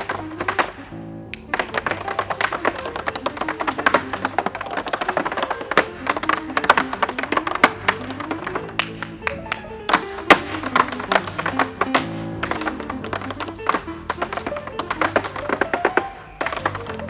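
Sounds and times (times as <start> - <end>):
music track: 0.0 - 17.0
tap shoes striking stage: 0.0 - 17.0.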